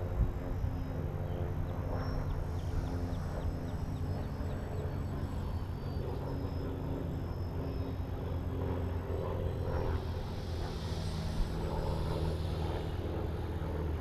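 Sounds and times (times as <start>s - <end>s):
model plane motor droning: 0.0s - 14.0s.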